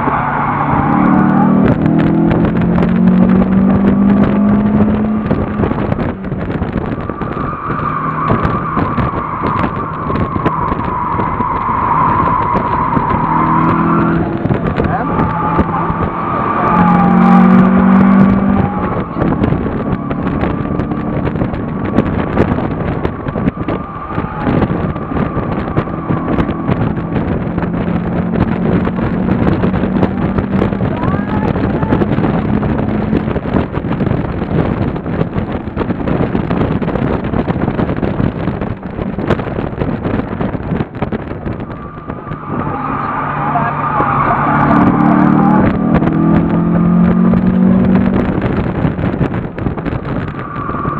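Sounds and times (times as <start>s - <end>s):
car engine revving hard: 0.0s - 50.9s
wind and road noise: 0.0s - 50.9s.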